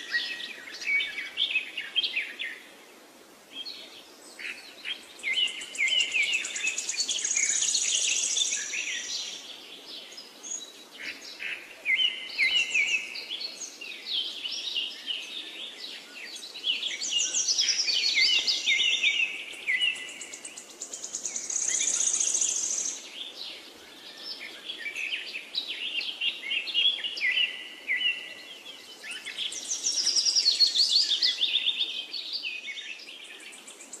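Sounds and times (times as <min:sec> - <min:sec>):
faint background hiss: 0:00.0 - 0:34.0
songbirds chirping and trilling: 0:00.0 - 0:34.0.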